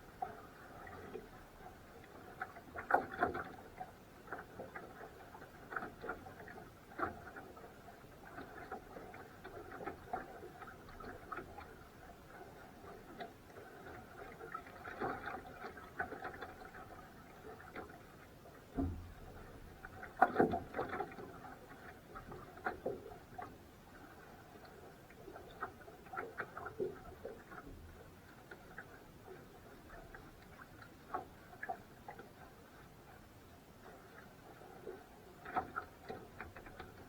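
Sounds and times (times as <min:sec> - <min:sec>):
water against boat hull: 0:00.0 - 0:37.0.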